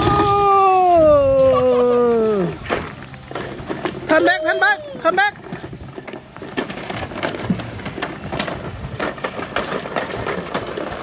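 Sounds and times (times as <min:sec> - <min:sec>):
plastic toy wheels rolling: 0:00.0 - 0:11.0.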